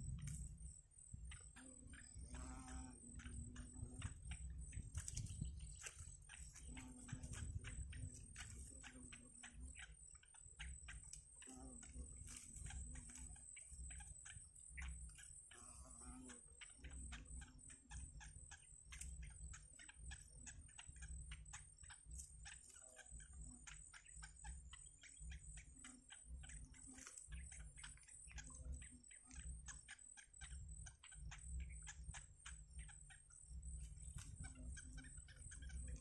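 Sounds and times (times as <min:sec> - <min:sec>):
chicks ticking: 0:01.2 - 0:36.0.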